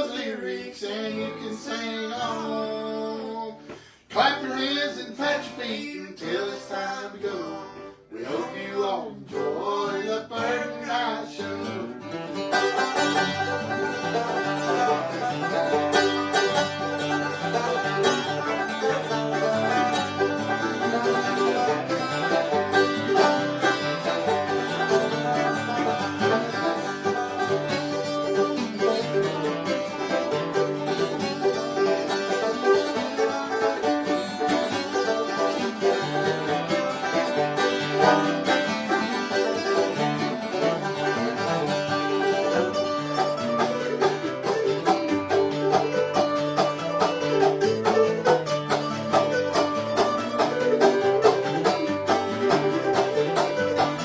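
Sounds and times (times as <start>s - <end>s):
acoustic guitar: 0.0s - 54.0s
rapid banjo rolls: 10.4s - 54.0s.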